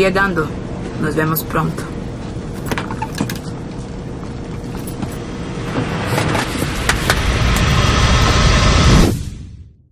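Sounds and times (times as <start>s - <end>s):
vehicle engine and road rumble: 0.0s - 9.0s.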